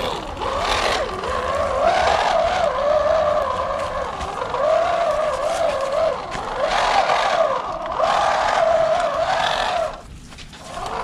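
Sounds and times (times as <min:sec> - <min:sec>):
rc car motor and gear whine: 0:00.0 - 0:11.0.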